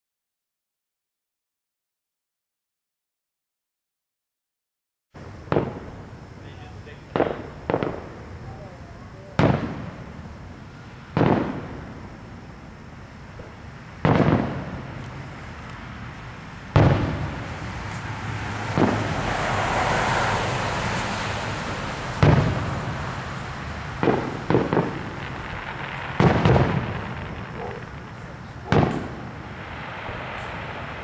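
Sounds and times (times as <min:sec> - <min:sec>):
fireworks booming: 0:05.2 - 0:31.0
fireworks hiss: 0:05.2 - 0:31.0.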